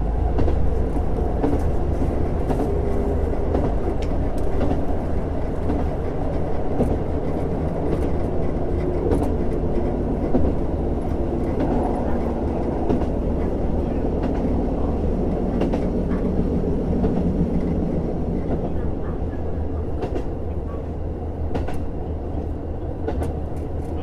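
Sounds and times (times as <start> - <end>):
railcar engine and wheels droning: 0.0 - 24.0
track clicking: 0.2 - 20.8, 21.5 - 24.0.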